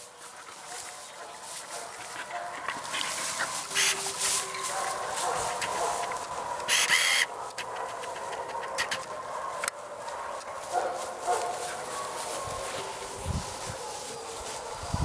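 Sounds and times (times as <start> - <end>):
rustling through tall grass: 0.0 - 7.2, 10.0 - 15.0.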